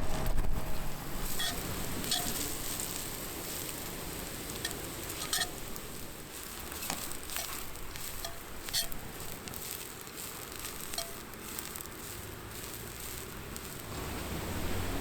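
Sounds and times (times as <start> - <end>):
wood fire crackles: 0.0 - 15.0
food sizzling and frying: 0.8 - 15.0.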